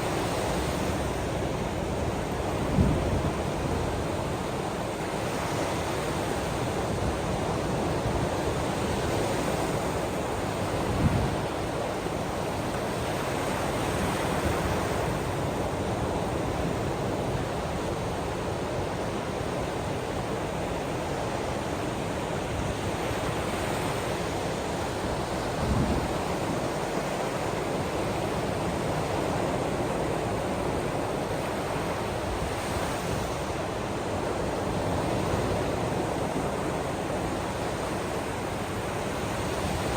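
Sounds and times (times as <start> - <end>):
ocean surf: 0.0 - 39.9.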